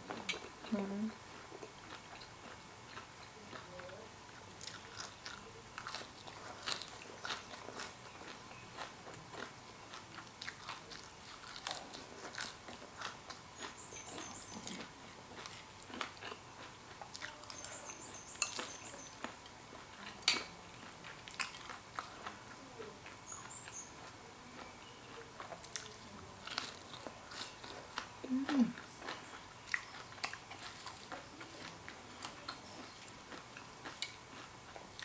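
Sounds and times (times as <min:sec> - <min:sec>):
chewing and lip-smacking: 0:01.3 - 0:35.0.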